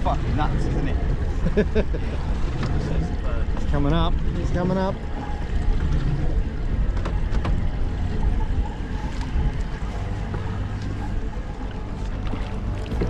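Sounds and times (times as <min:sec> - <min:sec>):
low steady hum: 0:00.0 - 0:13.0
water and hull noise: 0:00.0 - 0:13.0.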